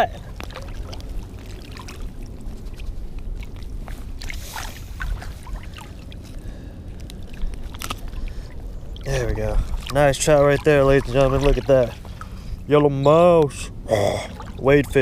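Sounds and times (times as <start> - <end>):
shallow water splashing: 0.0 - 13.0, 13.7 - 15.0
steady low rumble: 0.0 - 15.0.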